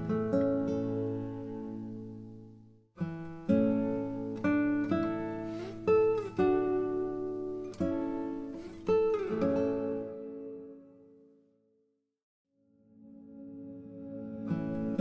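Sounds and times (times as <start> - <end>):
acoustic guitar strumming chords: 0.0 - 11.2, 13.0 - 15.0.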